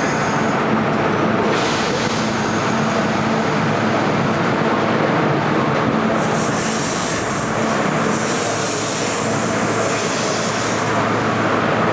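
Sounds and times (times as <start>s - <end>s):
electric train running hum: 0.0s - 11.9s.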